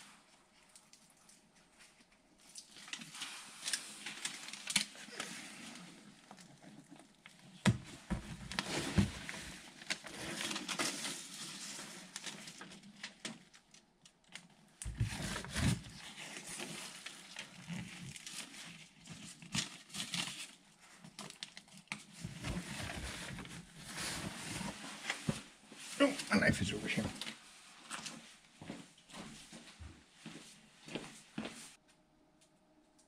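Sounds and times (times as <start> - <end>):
rustling and crinkling: 0.0 - 31.9.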